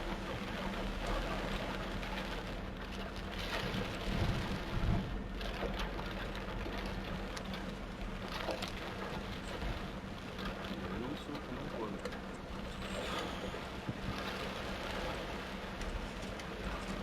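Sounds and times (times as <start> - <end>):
torrential rain pouring: 0.0 - 17.0.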